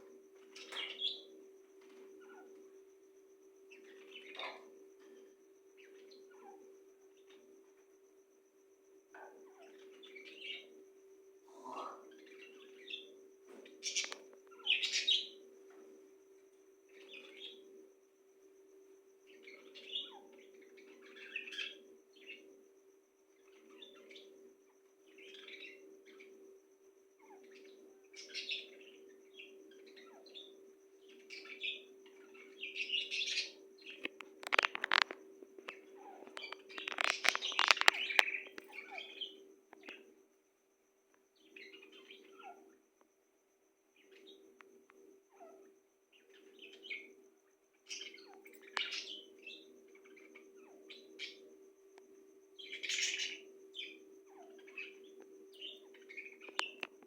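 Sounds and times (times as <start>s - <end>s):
birds chirping: 0.0s - 8.1s, 9.2s - 22.6s, 23.3s - 26.6s, 27.2s - 40.2s, 41.4s - 42.8s, 43.9s - 57.0s
steady low hum: 0.0s - 57.0s.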